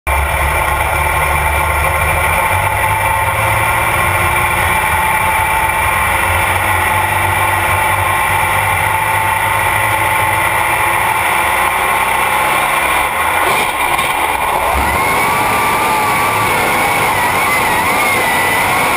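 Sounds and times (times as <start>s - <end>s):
tractor engine idling loudly: 0.1s - 18.9s.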